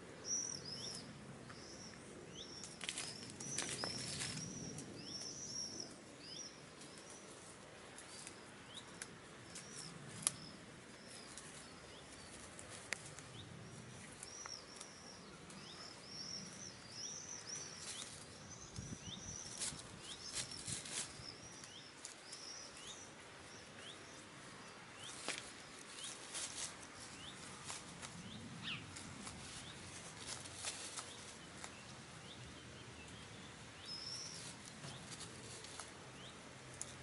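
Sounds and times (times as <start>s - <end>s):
hens pecking and scratching: 0.8s - 37.0s.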